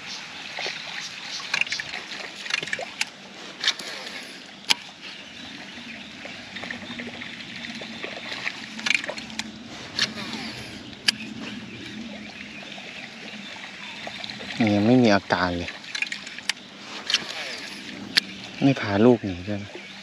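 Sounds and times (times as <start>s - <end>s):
water sloshing against kayak: 0.0s - 20.0s.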